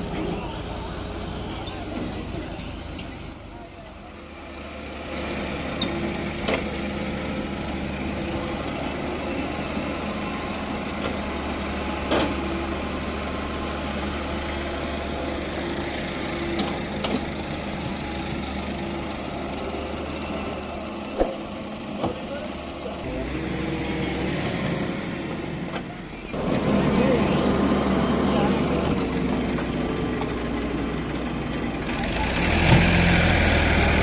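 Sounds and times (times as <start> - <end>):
diesel engines running: 0.0 - 34.0
excavator loading soil: 0.0 - 34.0.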